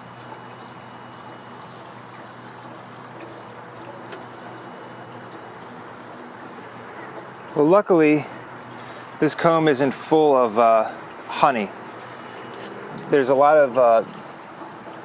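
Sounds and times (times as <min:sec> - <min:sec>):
honeybees buzzing: 0:00.0 - 0:09.4, 0:11.0 - 0:15.0.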